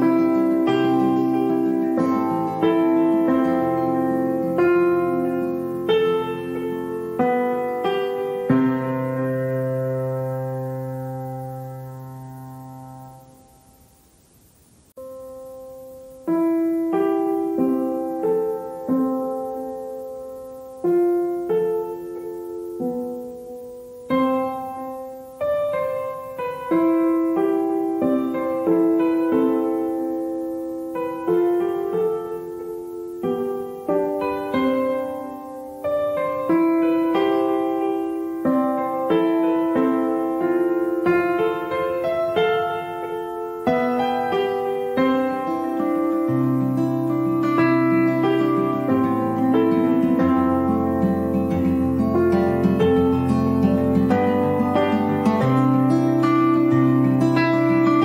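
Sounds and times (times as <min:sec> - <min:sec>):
slow piano notes and chords: 0:00.0 - 0:14.2, 0:14.9 - 0:58.0.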